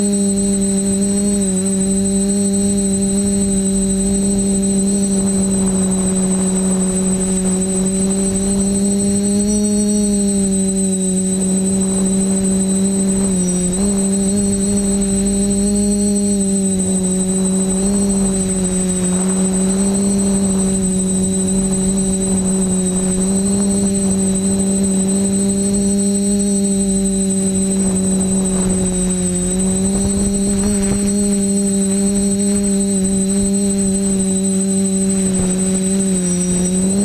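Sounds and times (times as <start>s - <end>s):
quadcopter motors humming: 0.0s - 37.0s
thin high whine: 0.0s - 37.0s.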